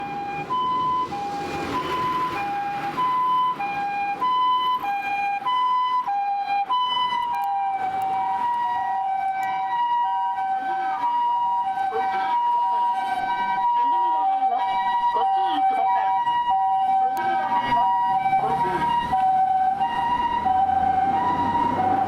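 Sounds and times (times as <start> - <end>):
ambulance two-tone siren: 0.0 - 22.0
second ambulance siren: 0.0 - 22.0.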